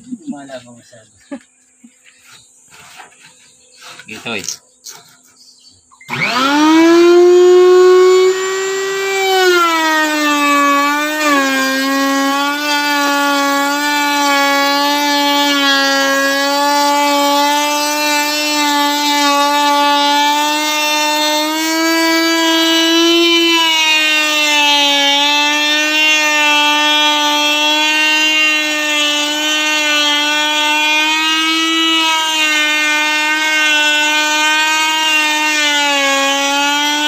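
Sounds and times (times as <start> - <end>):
router bit cutting wood: 2.2 - 5.4, 6.0 - 37.0
electric router whining: 3.2 - 37.0.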